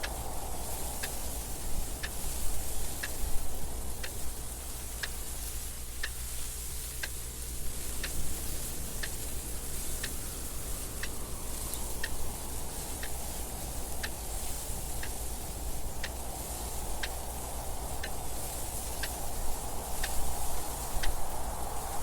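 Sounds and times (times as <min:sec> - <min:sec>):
clock ticking: 0:00.0 - 0:22.0
wind noise: 0:00.0 - 0:22.0.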